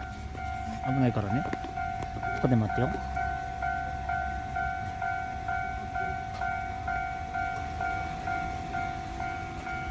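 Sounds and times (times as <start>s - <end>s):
level crossing warning bell: 0.0s - 9.9s.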